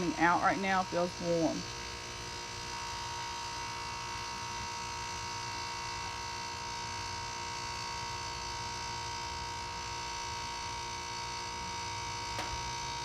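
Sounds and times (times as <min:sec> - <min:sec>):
heat pump electrical buzz: 0:00.0 - 0:13.0.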